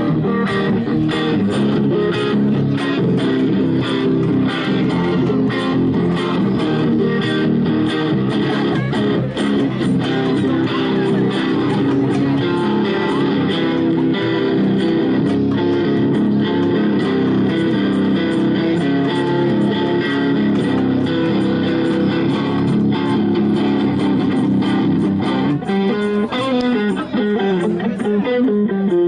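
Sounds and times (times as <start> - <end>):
electric guitar blues-rock: 0.0 - 29.0.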